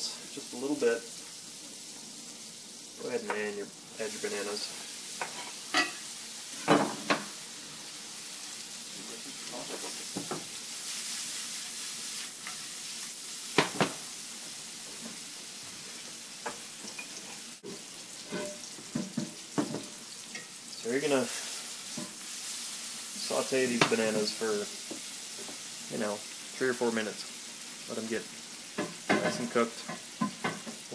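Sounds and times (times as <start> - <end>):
banana slices sizzling in butter: 0.0 - 30.9.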